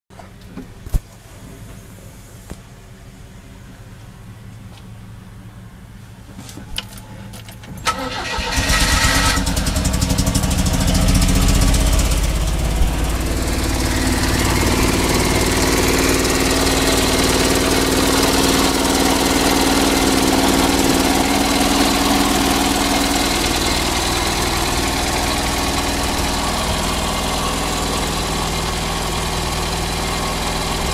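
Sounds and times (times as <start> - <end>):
car engine starting and idling: 1.2 - 30.9.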